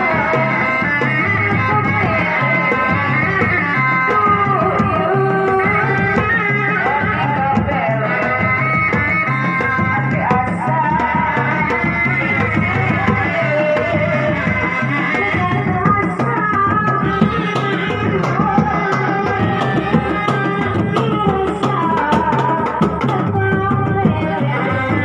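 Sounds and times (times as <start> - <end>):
hand drums beating: 0.0 - 25.0.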